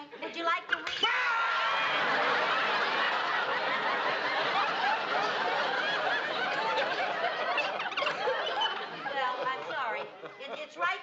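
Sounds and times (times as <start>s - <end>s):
studio audience laughing: 1.5s - 10.9s.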